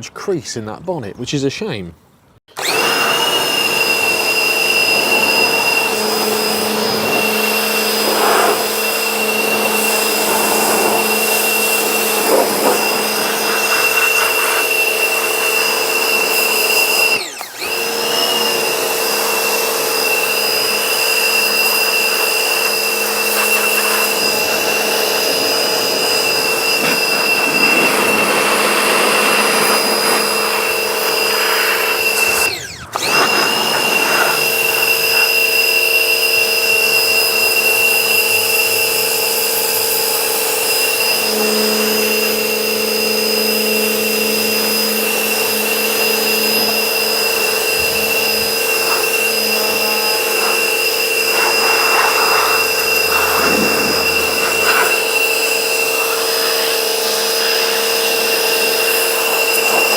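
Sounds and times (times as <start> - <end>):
pressure washer whine and spray: 2.5 - 59.9.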